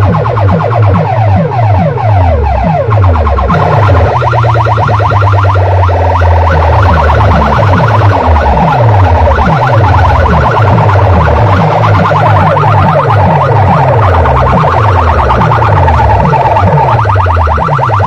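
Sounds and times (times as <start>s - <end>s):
heavy falling bass notes: 0.0s - 18.0s
warbling siren-like high tone: 0.0s - 18.0s.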